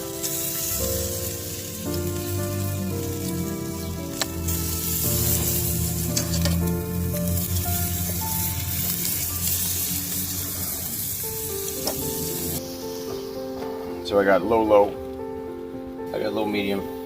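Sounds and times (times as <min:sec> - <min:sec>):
chicken sizzling on grill: 0:00.0 - 0:14.9
background music: 0:00.0 - 0:17.0.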